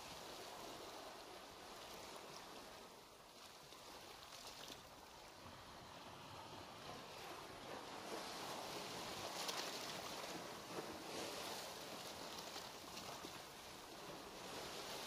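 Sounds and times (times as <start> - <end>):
faint rushing water: 0.0 - 15.0.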